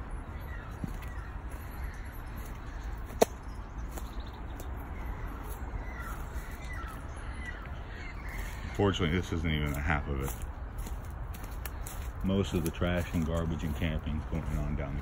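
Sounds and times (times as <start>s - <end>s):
faint bird calls: 0.0s - 14.8s
rustling through dry reeds: 0.0s - 15.0s.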